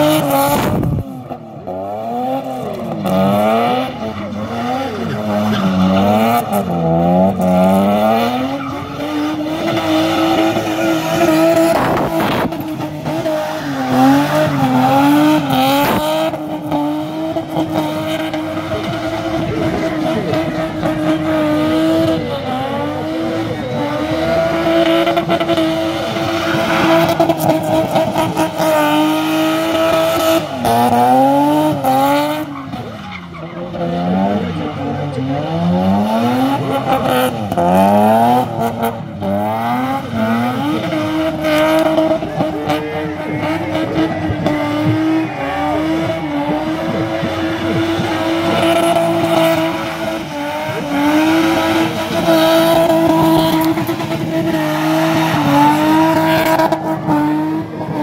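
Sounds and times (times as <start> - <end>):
car engine revving high: 0.0 - 58.0.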